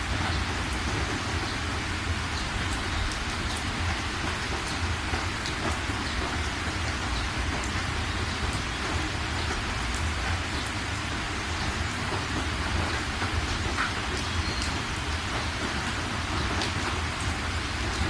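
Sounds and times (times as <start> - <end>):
continuous low rumble: 0.0 - 18.0
steady rain hiss: 0.0 - 18.0.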